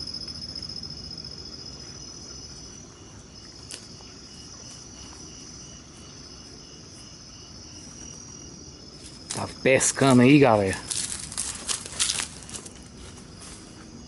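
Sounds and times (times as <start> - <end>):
insects trilling: 0.0 - 14.0
low cricket chirp: 0.0 - 14.0.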